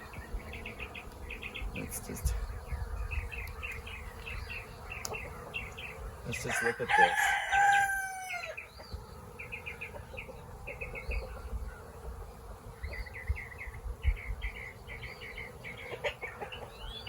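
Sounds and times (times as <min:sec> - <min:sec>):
bird chirping: 0:00.0 - 0:17.0
honeybees humming: 0:00.0 - 0:17.0.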